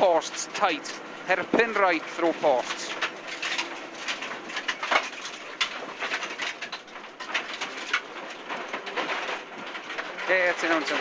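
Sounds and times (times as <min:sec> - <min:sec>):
car engine: 0:00.0 - 0:11.0
stones clattering against car: 0:00.0 - 0:11.0
tyre noise on gravel: 0:01.6 - 0:11.0.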